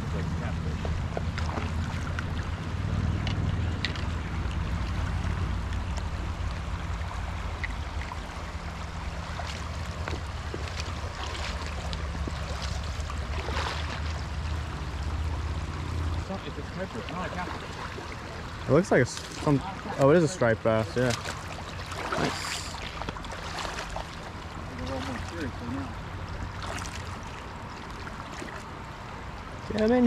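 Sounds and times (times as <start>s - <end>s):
low hum: 0.0s - 29.5s
river water flowing: 0.0s - 30.0s
wind: 0.0s - 30.0s.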